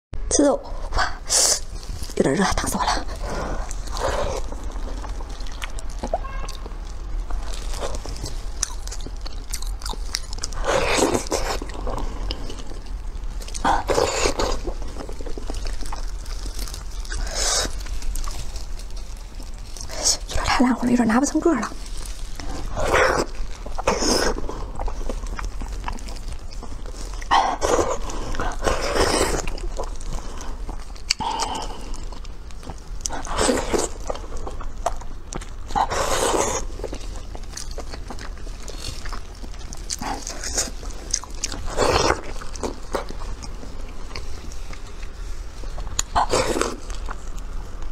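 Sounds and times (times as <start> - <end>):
wet chewing sounds: 0.8 - 47.9.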